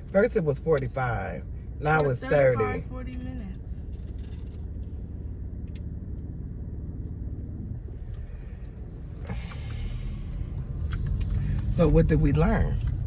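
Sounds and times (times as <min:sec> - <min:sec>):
car rumble from inside: 0:00.0 - 0:13.0.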